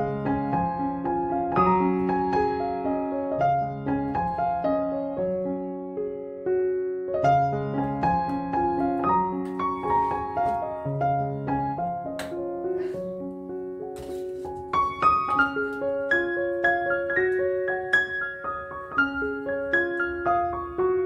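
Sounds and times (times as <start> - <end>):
gentle piano piece: 0.0 - 21.0.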